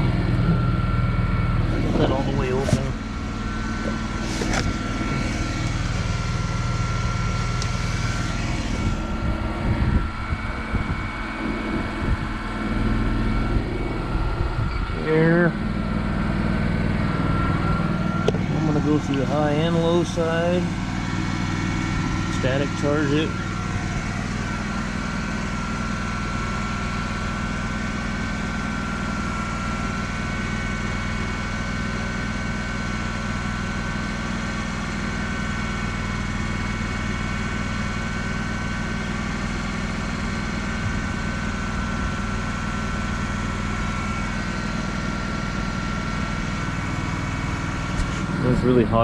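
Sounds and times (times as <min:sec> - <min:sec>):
machine humming with whine: 0:00.0 - 0:49.0.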